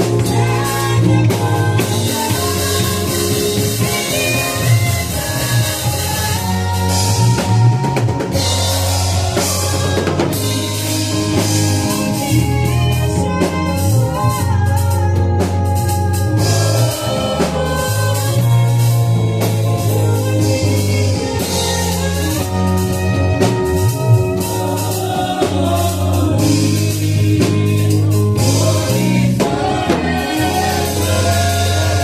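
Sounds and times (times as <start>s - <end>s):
sustained chords: 0.0s - 13.4s, 14.0s - 32.0s
drum kit: 0.0s - 32.0s
held bass notes: 0.0s - 32.0s.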